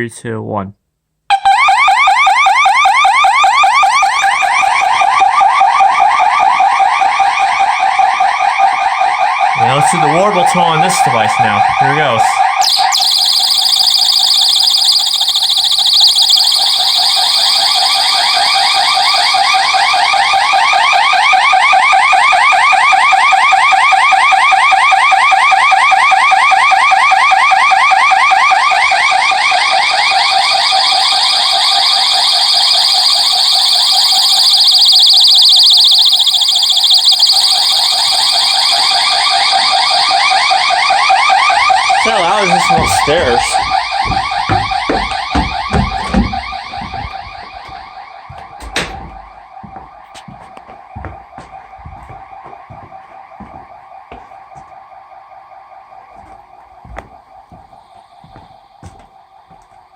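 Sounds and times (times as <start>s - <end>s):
electronic siren warbling: 1.3s - 59.2s.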